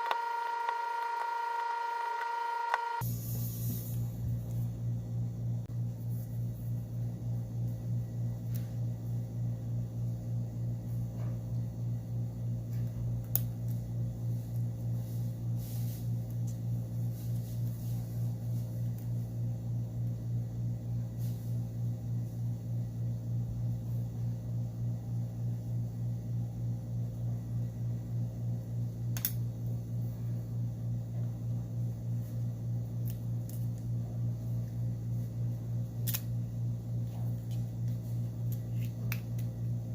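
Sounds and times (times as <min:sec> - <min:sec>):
low pulsing hum: 0:00.0 - 0:39.9.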